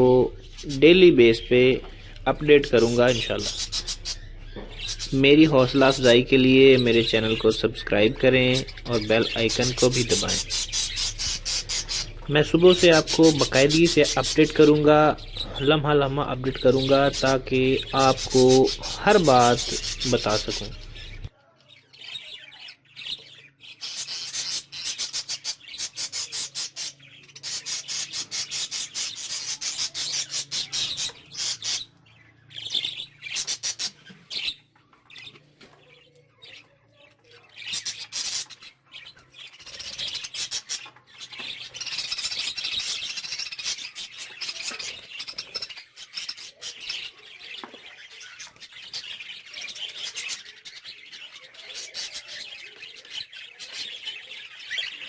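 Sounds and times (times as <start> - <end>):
flock of birds chirping: 0.0 - 55.0.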